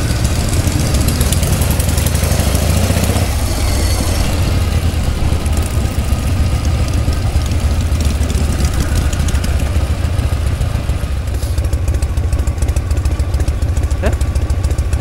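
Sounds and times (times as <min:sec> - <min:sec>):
motorcycle engines running slowly: 0:00.0 - 0:15.0.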